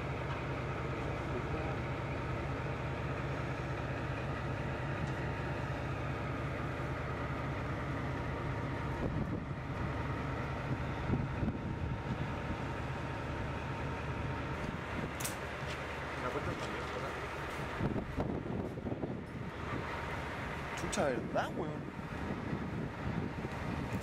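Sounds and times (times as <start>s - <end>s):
train mechanical hum: 0.0s - 24.0s.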